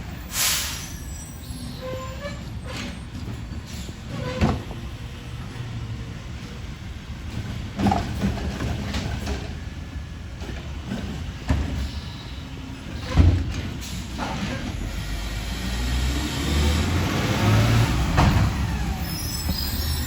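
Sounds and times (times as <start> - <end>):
garbage truck engine rumbling: 0.0 - 20.0.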